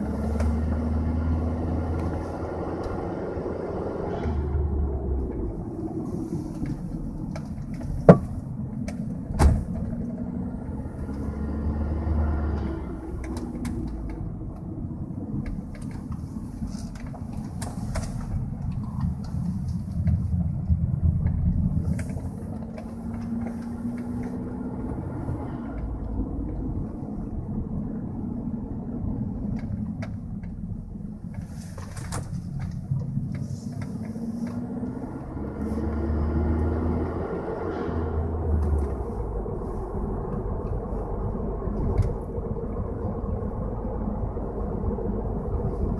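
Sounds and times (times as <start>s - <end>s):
car engine accelerating: 0.0s - 45.9s
road rumble: 0.0s - 45.9s.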